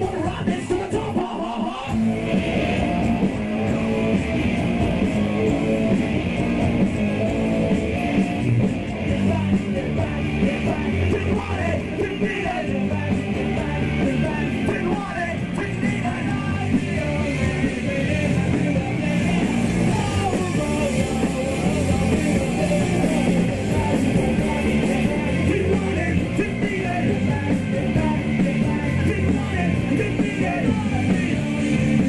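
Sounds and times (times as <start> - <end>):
punk rock band playing live: 0.0 - 32.0.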